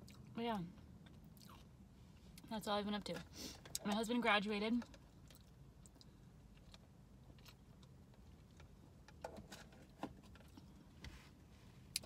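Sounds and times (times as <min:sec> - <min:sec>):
faint low car hum: 0:00.0 - 0:12.0.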